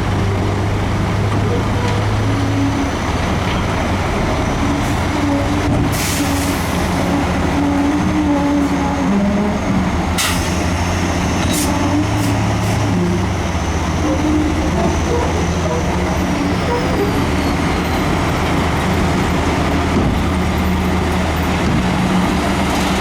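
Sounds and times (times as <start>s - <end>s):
bulldozer diesel engine running: 0.0s - 23.0s
steel tracks rattling: 0.9s - 23.0s.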